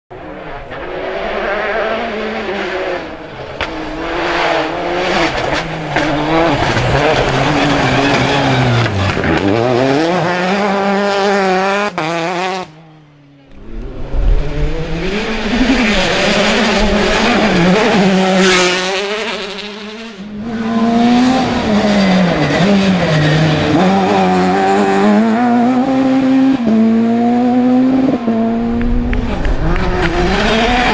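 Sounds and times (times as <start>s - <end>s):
rally car engines revving hard: 0.1s - 30.9s.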